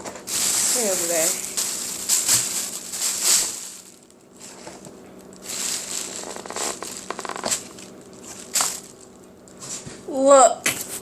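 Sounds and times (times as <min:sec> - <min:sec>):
crunching eggshell handling: 0:00.2 - 0:09.6.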